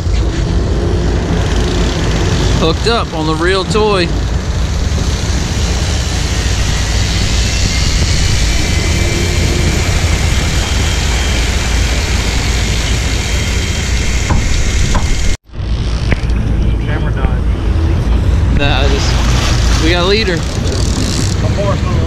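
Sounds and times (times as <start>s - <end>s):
water churning: 0.0s - 16.2s, 17.5s - 22.0s
boat engines running: 0.0s - 22.0s
wind buffeting microphone: 0.0s - 22.0s.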